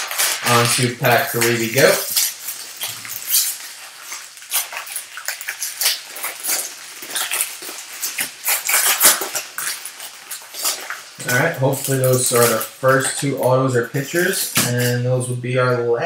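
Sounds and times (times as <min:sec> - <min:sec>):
foil wrapper crinkling and tearing: 0:00.0 - 0:15.4.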